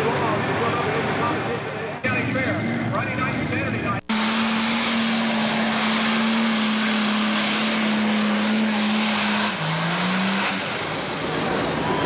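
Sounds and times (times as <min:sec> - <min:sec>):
diesel engine at high revs: 0:00.0 - 0:12.0.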